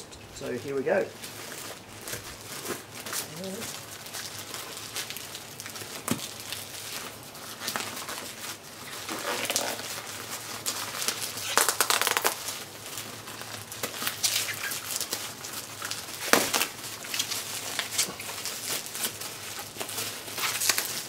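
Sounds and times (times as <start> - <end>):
plastic mailing bag crinkling: 0.4 - 21.0.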